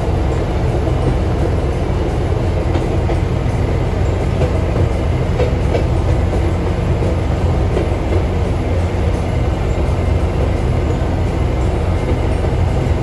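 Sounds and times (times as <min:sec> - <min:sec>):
low engine drone: 0:00.0 - 0:13.0
wheel and rail noise: 0:00.0 - 0:13.0.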